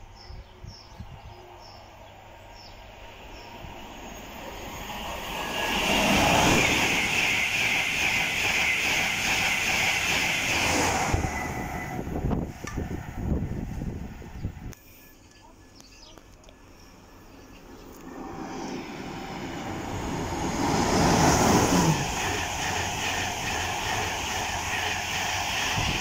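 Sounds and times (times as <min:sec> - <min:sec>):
train passing at speed: 0:00.0 - 0:15.8, 0:16.6 - 0:26.0.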